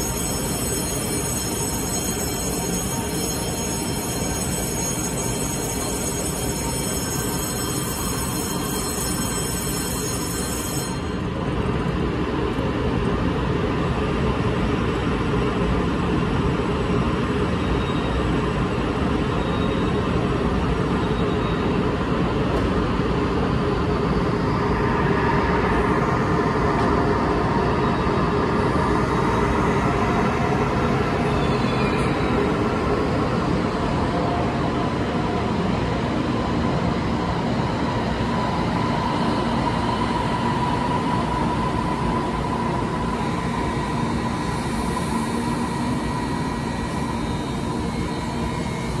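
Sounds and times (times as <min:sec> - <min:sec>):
electric train running noise: 0:00.0 - 0:49.0.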